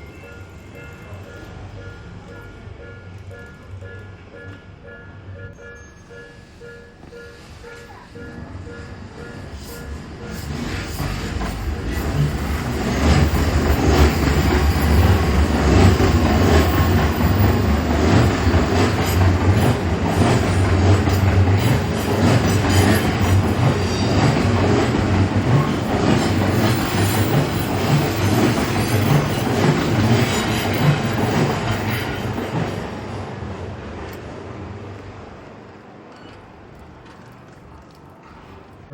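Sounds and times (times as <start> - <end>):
electric train rumbling past: 0.0 - 36.1.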